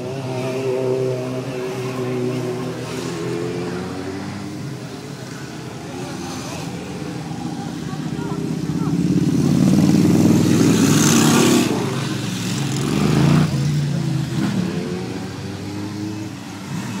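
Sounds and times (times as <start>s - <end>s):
motorcycles riding past: 0.0s - 17.0s.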